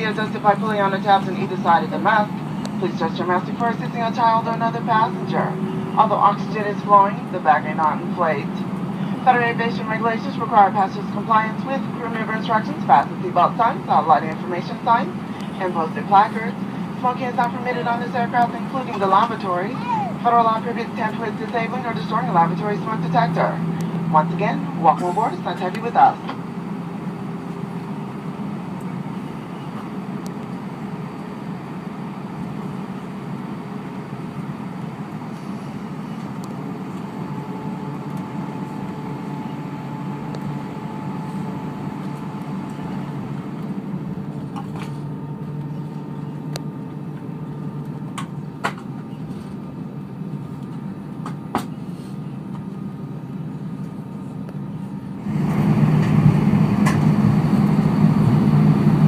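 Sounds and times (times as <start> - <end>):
airplane cabin engine hum: 0.0 - 59.0.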